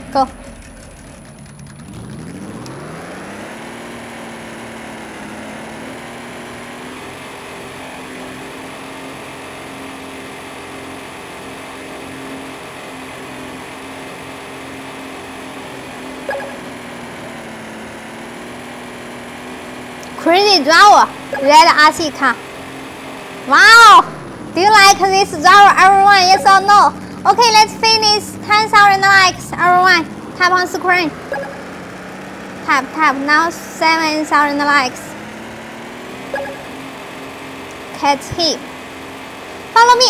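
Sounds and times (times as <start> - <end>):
rc car motor whining: 0.0 - 40.0.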